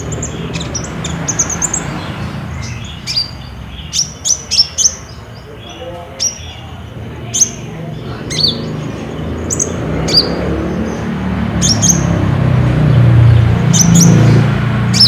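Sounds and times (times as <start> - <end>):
bird calling sharp high chirps: 0.0 - 12.2, 13.5 - 15.0.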